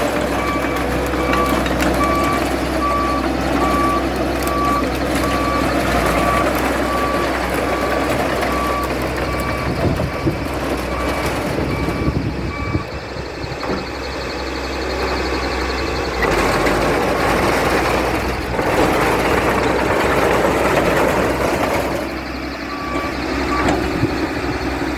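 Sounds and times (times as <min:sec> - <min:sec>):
backup alarm beeping: 0:00.0 - 0:19.3, 0:19.9 - 0:24.9
bulldozer diesel engine running: 0:00.0 - 0:24.9.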